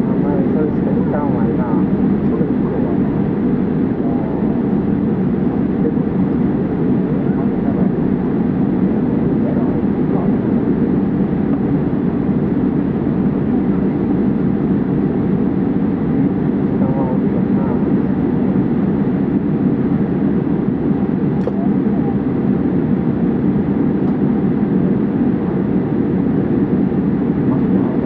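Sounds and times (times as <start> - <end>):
airplane cabin engine noise: 0.0 - 28.0.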